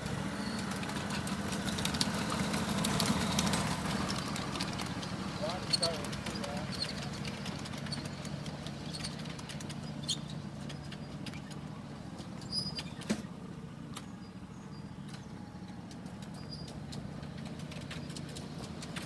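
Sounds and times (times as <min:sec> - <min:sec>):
train wheels clicking over rail joints: 0:00.0 - 0:14.1, 0:15.0 - 0:19.0.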